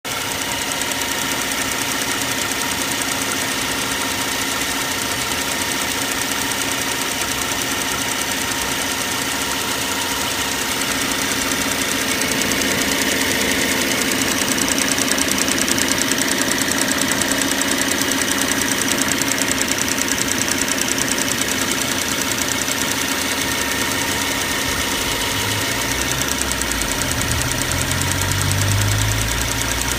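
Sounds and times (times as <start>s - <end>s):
car engine idling: 0.1s - 29.9s.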